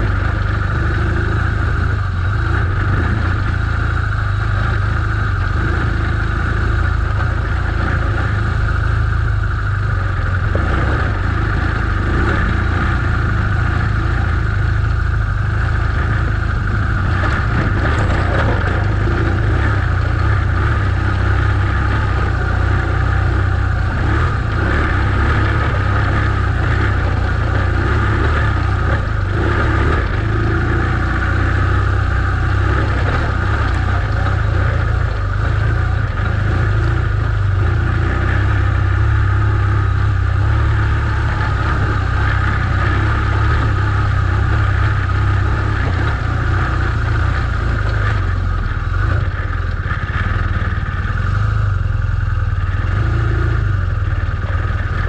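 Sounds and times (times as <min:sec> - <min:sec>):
motorcycle engine running under load: 0:00.0 - 0:55.0.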